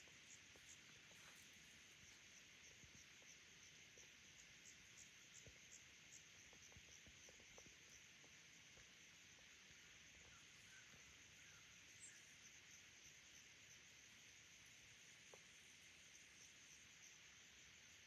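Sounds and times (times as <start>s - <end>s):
distant insect chirping: 0.0s - 18.0s.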